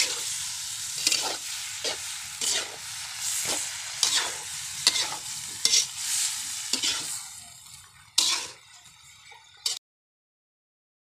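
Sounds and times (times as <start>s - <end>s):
frying sizzle: 0.0s - 9.8s
metal spatula scraping a wok: 0.0s - 9.8s.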